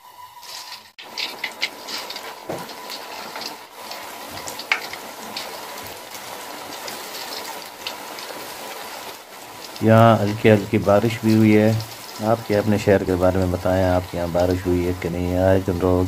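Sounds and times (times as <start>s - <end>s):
batter sizzling in hot oil: 0.0s - 16.0s.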